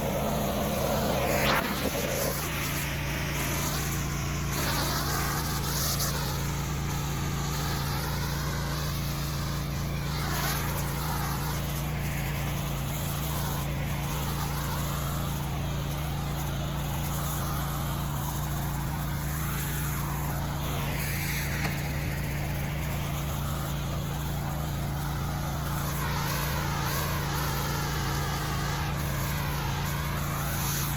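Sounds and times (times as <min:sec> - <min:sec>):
pressure washer engine hum: 0:00.0 - 0:30.9
water jet hissing on concrete: 0:00.0 - 0:30.9.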